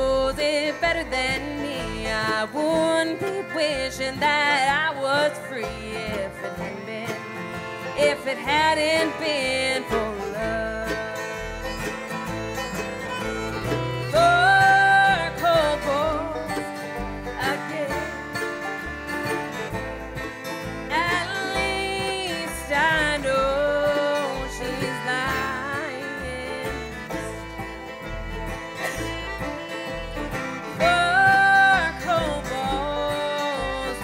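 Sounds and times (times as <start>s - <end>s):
bluegrass band playing: 0.0s - 34.0s.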